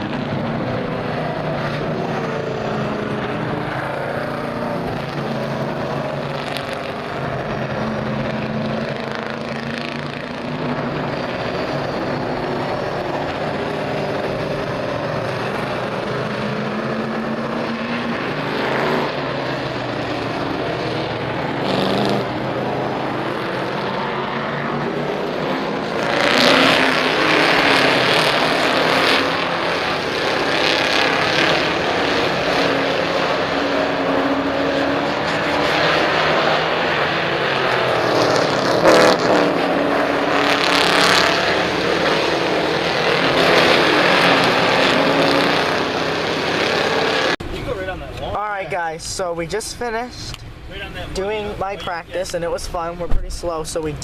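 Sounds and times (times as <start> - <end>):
race car engines running: 0.0 - 54.0.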